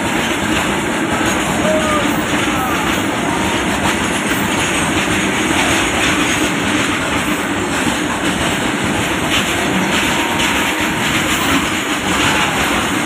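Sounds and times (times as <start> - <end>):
freight train wheels clattering: 0.0 - 13.0.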